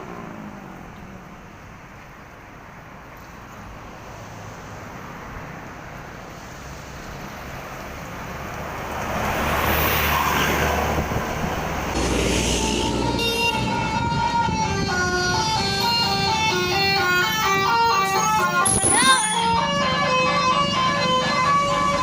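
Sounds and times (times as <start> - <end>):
bus engine and tyre noise: 0.0 - 22.0.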